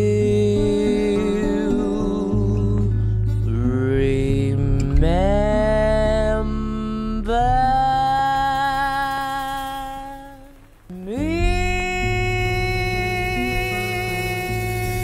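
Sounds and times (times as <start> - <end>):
bass: 0.0 - 15.0
long held sung notes: 0.0 - 15.0.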